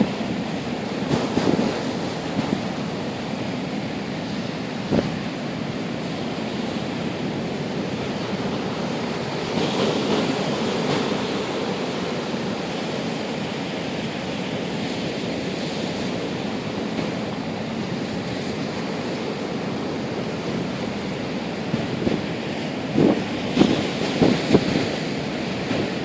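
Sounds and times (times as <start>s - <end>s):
strong wind: 0.0s - 26.0s
surf crashing: 0.0s - 26.0s.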